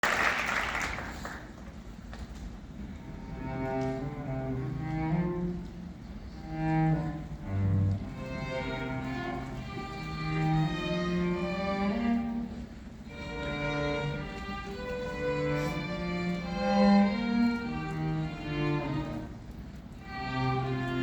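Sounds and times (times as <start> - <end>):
bowed strings playing slowly: 2.8 - 21.0.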